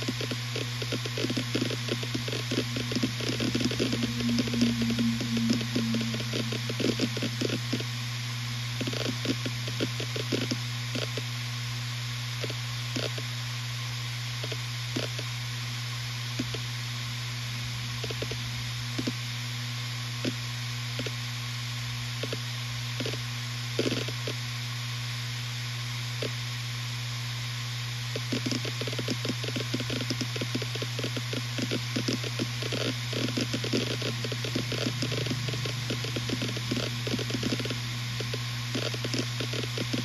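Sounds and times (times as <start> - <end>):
hard drive humming: 0.0 - 25.1, 27.8 - 40.0.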